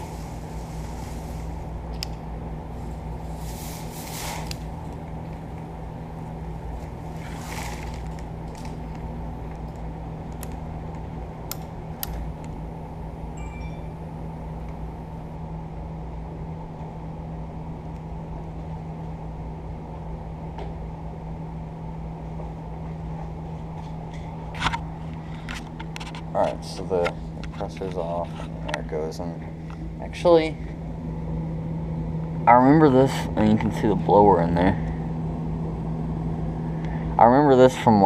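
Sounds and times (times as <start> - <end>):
air conditioner humming: 0.0 - 38.0.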